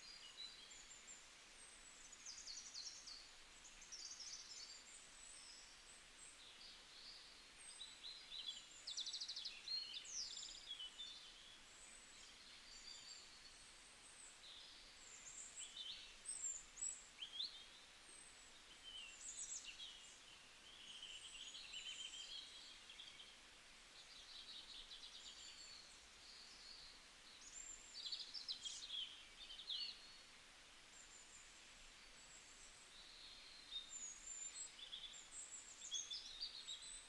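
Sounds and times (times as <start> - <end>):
faint birdsong: 0.0 - 37.0.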